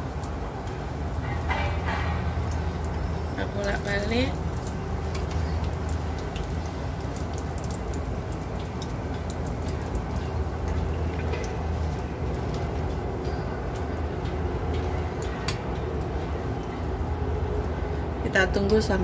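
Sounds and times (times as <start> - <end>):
dough frying in oil: 0.0 - 19.0.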